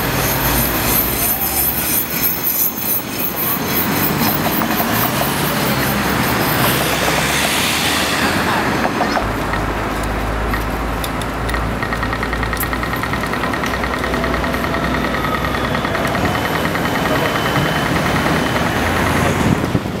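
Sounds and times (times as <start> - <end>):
passing car traffic: 0.0 - 20.0
tram running on rails: 0.0 - 20.0.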